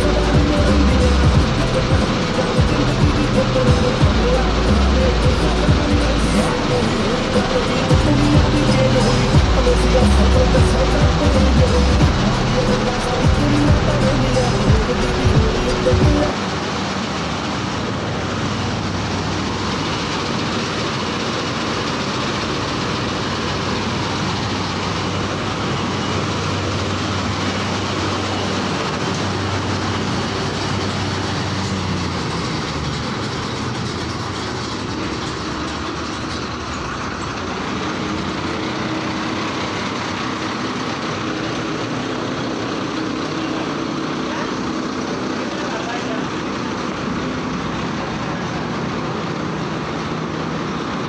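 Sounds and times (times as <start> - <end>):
combine harvester engine drone: 0.0 - 51.0.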